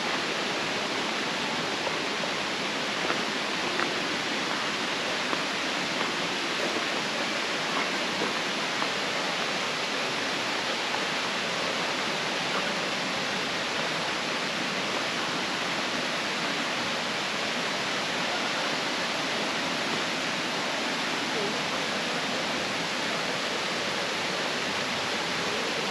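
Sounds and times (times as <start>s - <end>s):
rush of flowing water: 0.0s - 25.9s.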